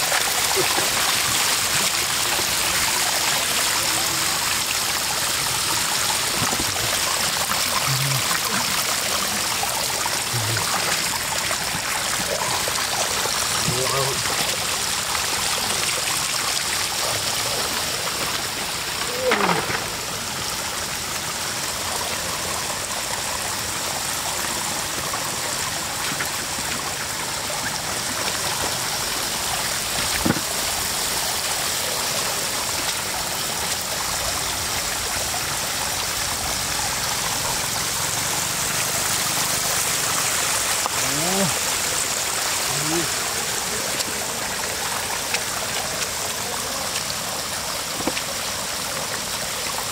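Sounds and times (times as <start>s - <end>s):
floodwater rushing and trickling: 0.0s - 49.9s.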